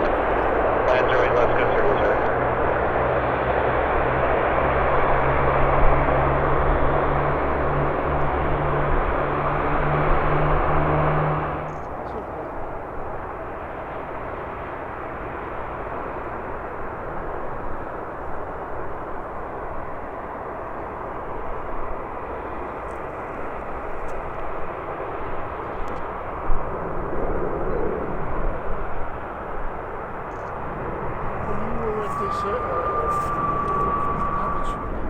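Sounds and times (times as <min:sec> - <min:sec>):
jet airliner engines rushing: 0:00.0 - 0:35.0.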